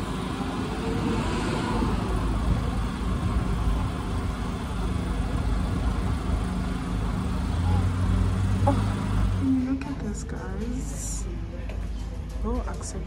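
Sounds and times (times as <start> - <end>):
vehicle engine running: 0.0 - 11.2.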